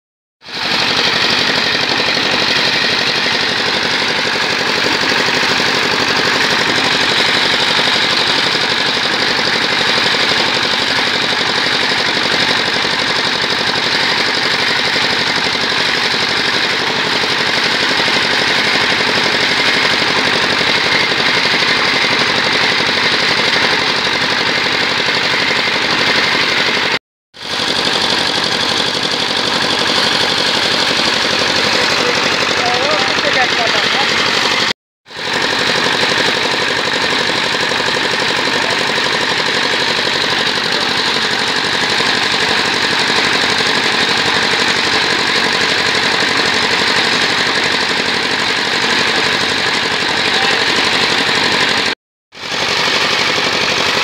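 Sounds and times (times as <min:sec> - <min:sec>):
diesel engine running: 0:00.4 - 0:54.0.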